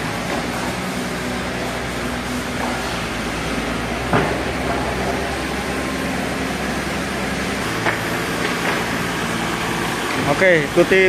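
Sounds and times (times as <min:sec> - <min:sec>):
sawmill machinery droning: 0:00.0 - 0:11.0.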